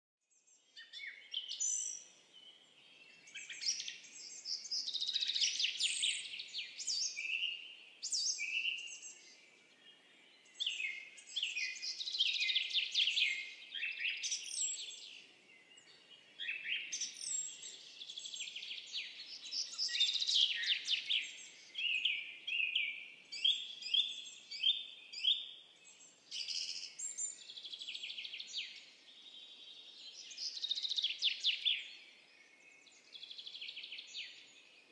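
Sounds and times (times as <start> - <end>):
birds chirping and trilling: 0.4 - 34.9.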